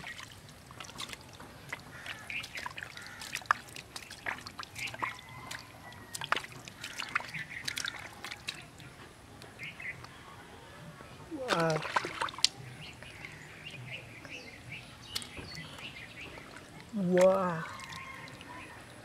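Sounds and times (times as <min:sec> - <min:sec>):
hands sloshing in muddy water: 0:00.0 - 0:09.0, 0:11.3 - 0:13.8, 0:15.0 - 0:19.0
water splashes and drips: 0:00.0 - 0:10.2, 0:11.3 - 0:19.0.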